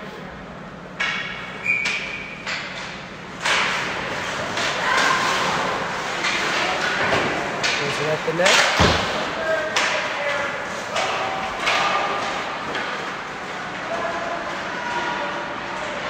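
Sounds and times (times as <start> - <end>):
puck and sticks knocking boards: 1.0 - 14.7.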